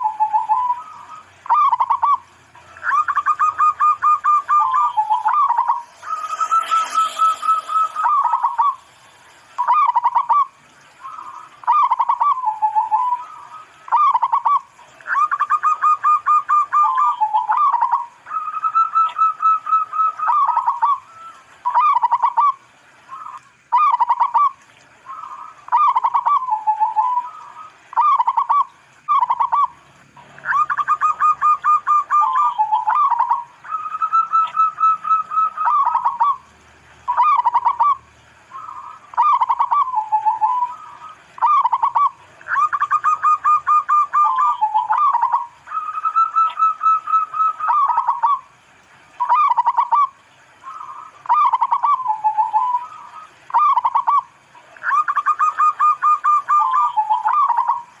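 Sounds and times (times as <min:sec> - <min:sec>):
dove cooing: 0:00.0 - 0:08.9, 0:09.6 - 0:29.7, 0:30.4 - 0:36.5, 0:37.1 - 0:48.5, 0:49.2 - 0:58.0.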